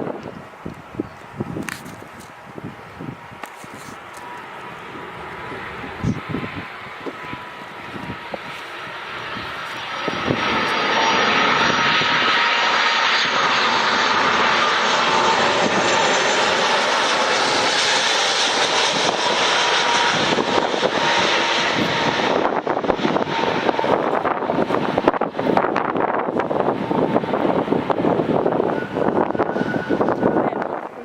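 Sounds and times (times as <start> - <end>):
aircraft engine flying overhead: 0.0 - 31.0
wind buffeting microphone: 0.0 - 31.0.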